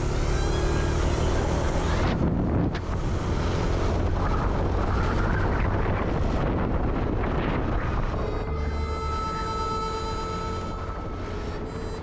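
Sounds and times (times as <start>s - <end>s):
wind buffeting microphone: 0.8s - 12.0s.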